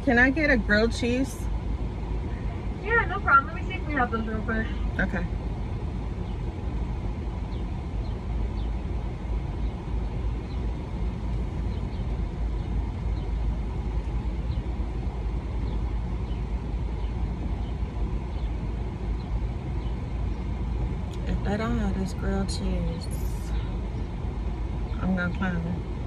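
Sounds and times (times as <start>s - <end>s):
car idling: 0.0s - 26.0s.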